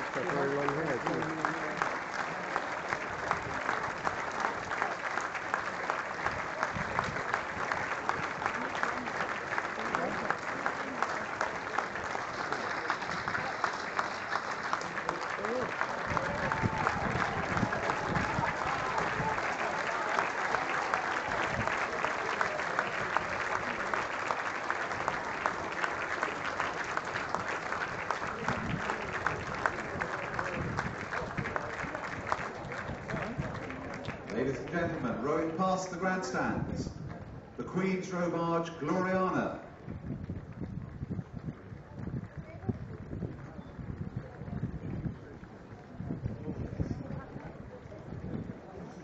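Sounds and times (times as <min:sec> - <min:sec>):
crowd applauding: 0:00.0 - 0:36.1, 0:37.0 - 0:49.0.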